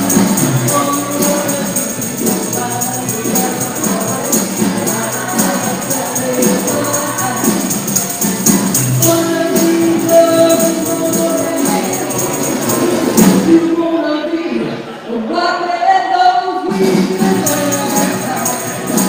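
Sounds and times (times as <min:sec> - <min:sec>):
upbeat music with singing: 0:00.0 - 0:19.0.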